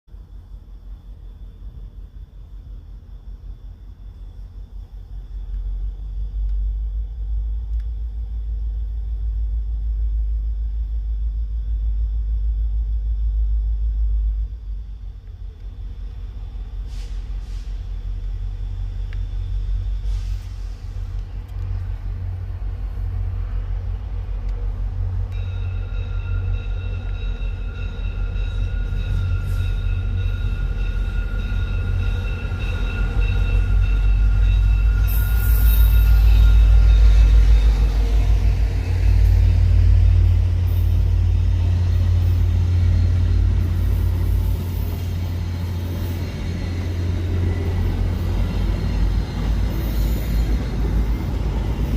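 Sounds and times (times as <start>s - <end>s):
diesel train rumble: 0.1s - 51.9s.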